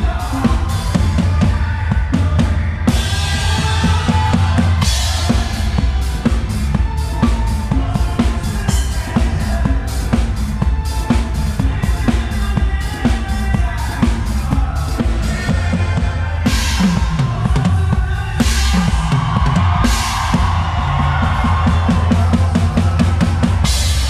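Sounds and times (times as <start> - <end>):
live band playing disco groove: 0.0 - 24.0.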